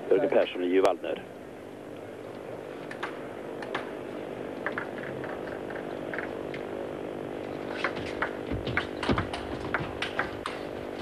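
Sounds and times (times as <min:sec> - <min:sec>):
hall hum: 0:00.9 - 0:11.0.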